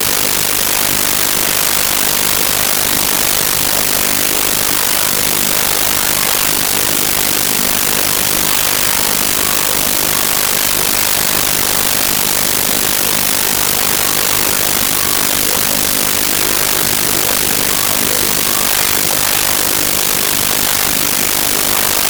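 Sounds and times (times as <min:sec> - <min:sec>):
static hiss: 0:00.0 - 0:22.0.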